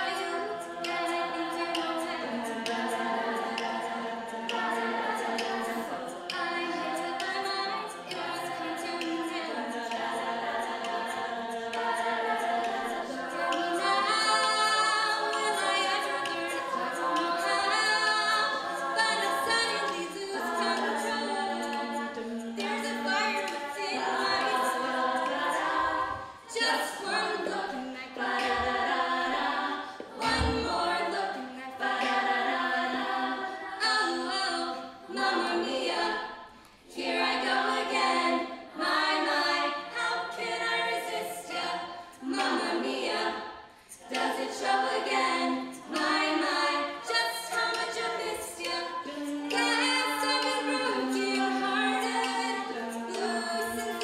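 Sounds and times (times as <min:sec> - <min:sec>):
women singing a cappella: 0:00.0 - 0:54.0.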